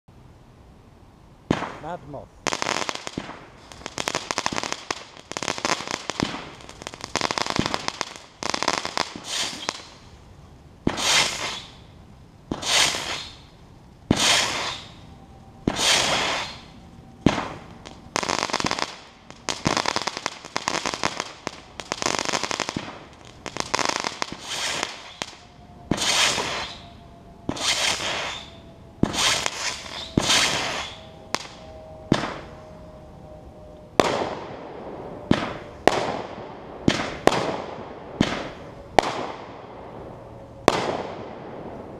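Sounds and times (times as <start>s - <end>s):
firework shots banging and crackling: 1.4s - 10.1s, 10.8s - 11.9s, 12.5s - 15.0s, 15.6s - 32.5s, 34.0s - 34.6s, 35.3s - 39.7s, 40.6s - 41.9s.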